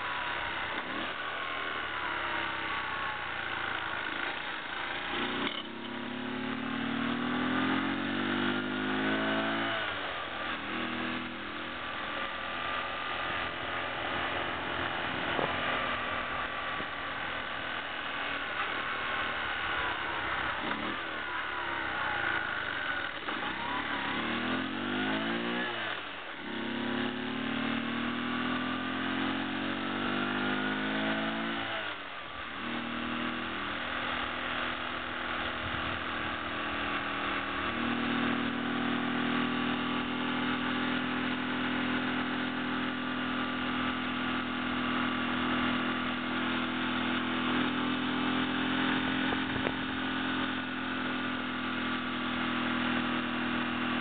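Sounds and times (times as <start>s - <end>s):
small motorcycle engine: 0.0s - 54.0s
wind and road noise: 0.0s - 54.0s.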